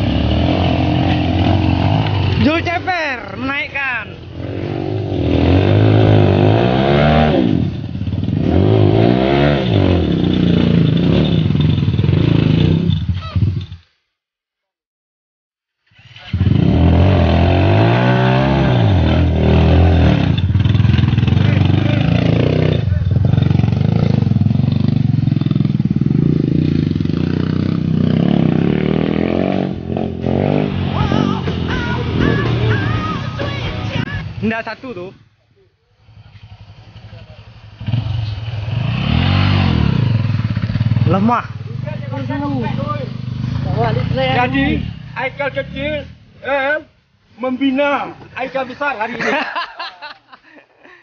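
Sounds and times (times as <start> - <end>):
dirt bike engine revving: 0.0 - 13.8, 15.9 - 34.6, 36.0 - 46.9.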